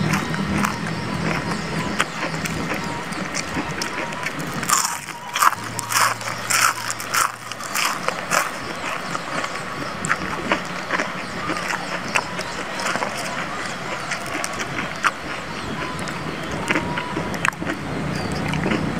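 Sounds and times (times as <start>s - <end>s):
chewing clicks: 0.0s - 18.9s
crunchy bites and chewing: 0.0s - 18.9s.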